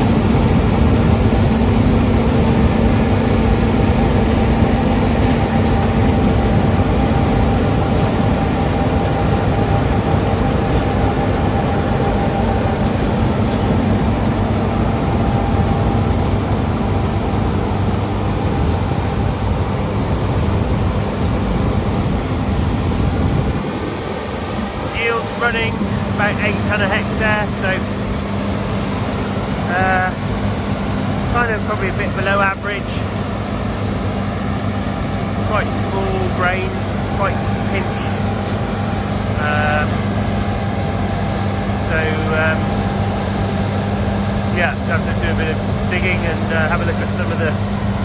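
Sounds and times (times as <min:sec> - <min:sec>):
combine harvester drone: 0:00.0 - 0:48.0.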